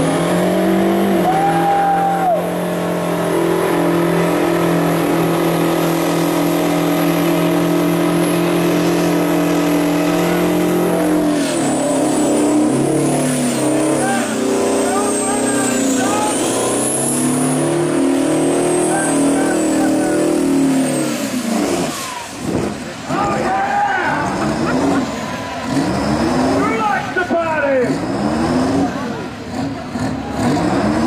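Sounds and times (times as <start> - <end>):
truck engine at high revs: 0.0 - 31.0.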